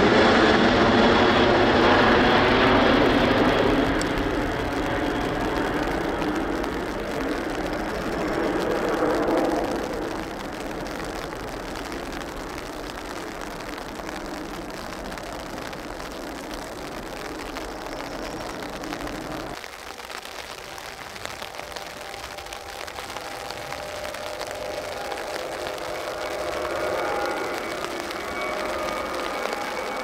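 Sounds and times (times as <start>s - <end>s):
jet airliner engine roar: 0.0s - 19.6s, 21.0s - 30.0s.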